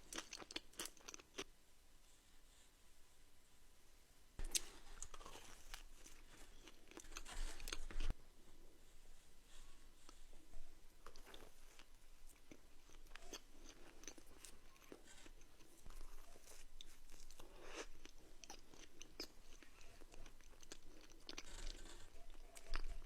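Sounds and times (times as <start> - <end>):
person chewing and crunching food: 0.0 - 1.5, 4.4 - 8.7, 9.5 - 23.0.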